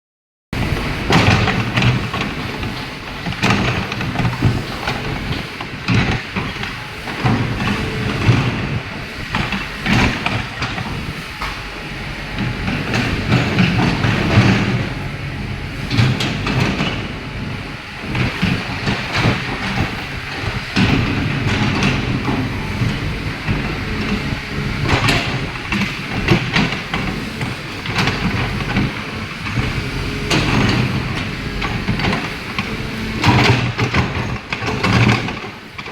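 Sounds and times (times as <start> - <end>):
excavator diesel engine: 0.6 - 35.9
clanks and knocks: 1.0 - 11.7, 12.3 - 35.9.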